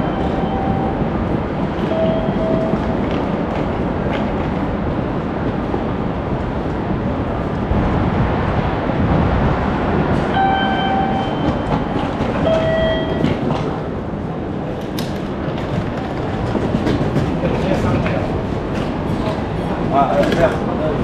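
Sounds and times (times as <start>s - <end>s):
train rumbling and rattling: 0.0s - 21.0s.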